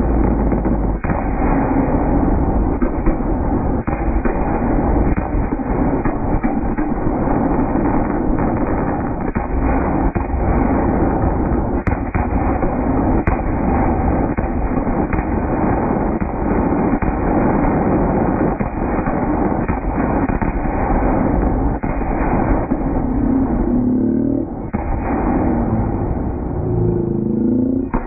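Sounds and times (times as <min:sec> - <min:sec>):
fireworks bursting: 0:00.0 - 0:26.6, 0:27.5 - 0:28.0.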